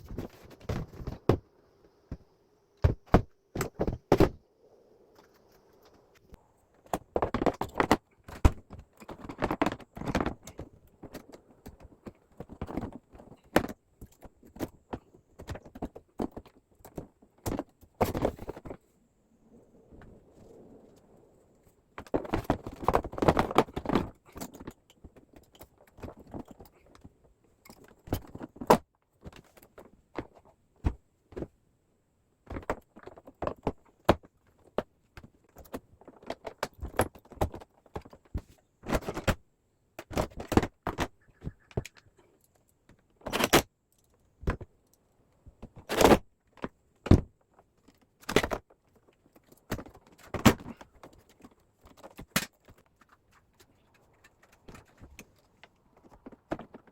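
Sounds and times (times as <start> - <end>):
plastic parts clicking and rattling: 5.1 - 18.8, 21.9 - 31.6, 32.4 - 56.9.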